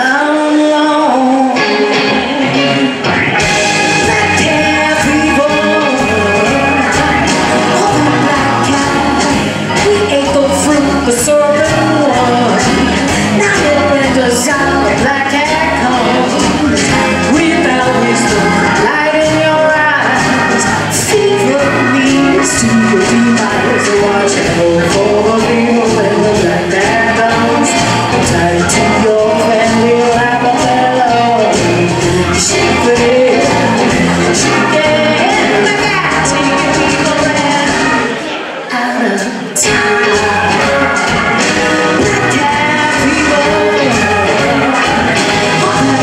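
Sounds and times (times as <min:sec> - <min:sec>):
electric bass: 0:00.0 - 0:38.2, 0:39.6 - 0:46.0
drums: 0:00.0 - 0:46.0
electric guitar: 0:00.0 - 0:46.0
keyboard: 0:00.0 - 0:46.0
woman singing: 0:00.0 - 0:46.0.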